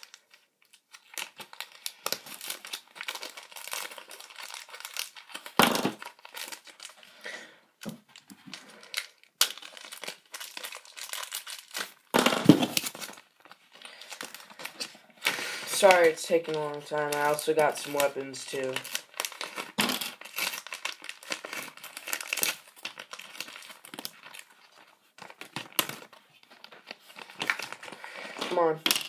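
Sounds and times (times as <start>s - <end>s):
packaging crinkling and rustling: 0.0s - 7.2s, 7.8s - 29.0s.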